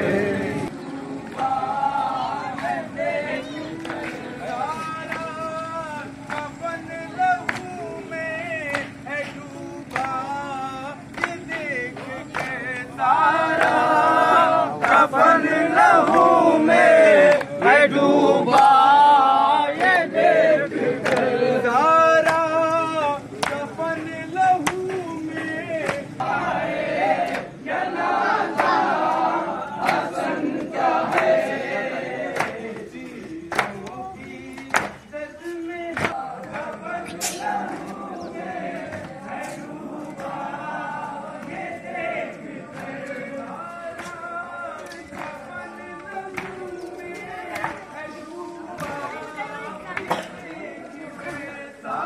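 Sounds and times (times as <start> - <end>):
men chanting in unison: 0.0 - 52.0.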